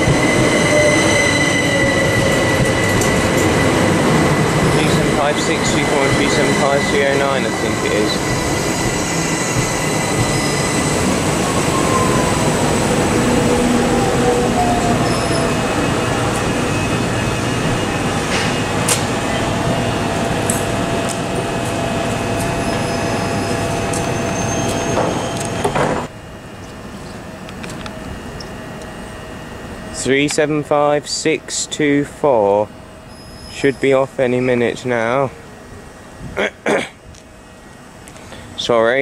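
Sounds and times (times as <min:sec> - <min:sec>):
electric train braking with whine: 0:00.0 - 0:31.3, 0:31.9 - 0:36.3.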